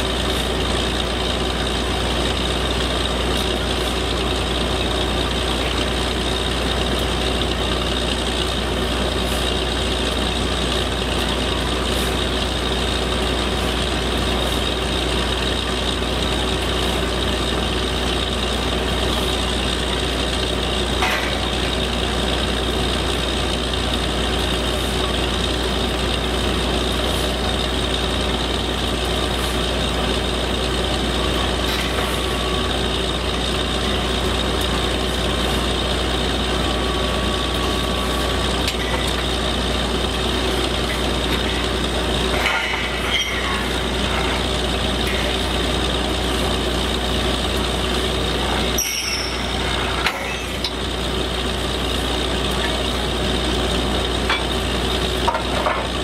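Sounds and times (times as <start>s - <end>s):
drilling rig running: 0.0s - 56.0s.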